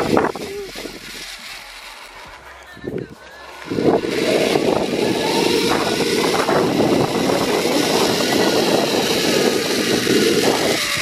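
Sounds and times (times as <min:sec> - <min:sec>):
wind rushing over microphone: 0:00.0 - 0:01.3, 0:02.1 - 0:11.0
zip line trolley whirring: 0:00.0 - 0:11.0.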